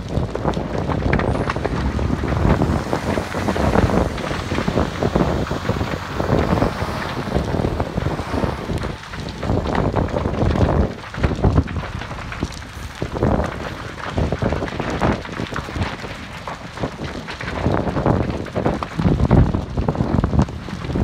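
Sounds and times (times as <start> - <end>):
fire crackling and popping: 0.0 - 21.0
wind rumble on microphone: 0.0 - 21.0.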